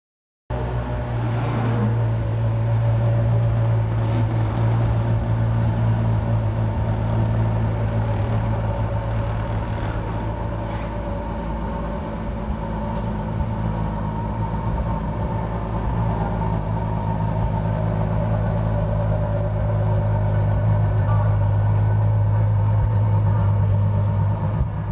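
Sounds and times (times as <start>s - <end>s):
car engine idling: 0.5s - 24.9s.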